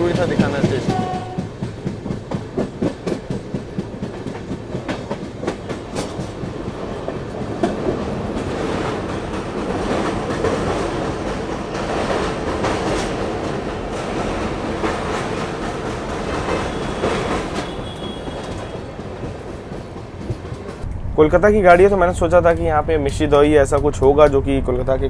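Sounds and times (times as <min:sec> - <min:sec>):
train wheels clacking: 0:00.0 - 0:20.9.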